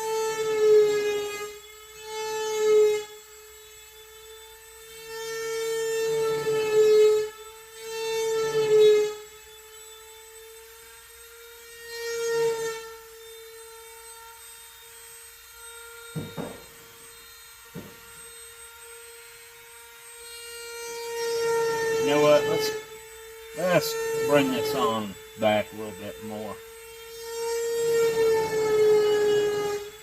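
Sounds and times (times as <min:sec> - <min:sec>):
mechanical motor whine: 0:00.0 - 0:30.0.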